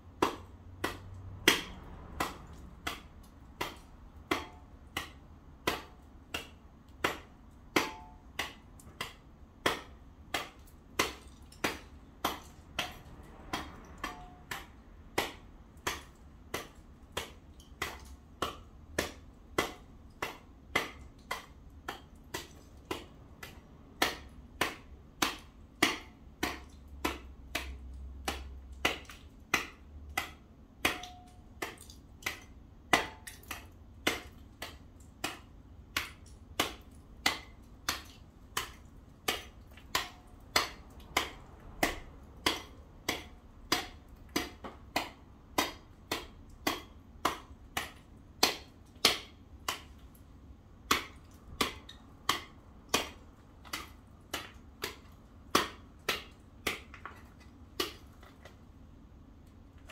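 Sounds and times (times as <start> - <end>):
tool chipping at ice: 0.0 - 58.6.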